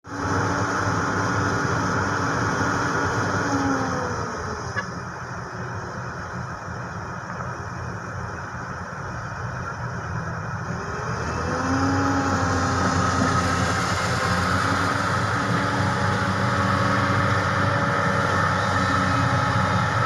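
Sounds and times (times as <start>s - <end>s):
road noise: 0.0s - 20.0s
vehicle engine: 0.0s - 20.0s.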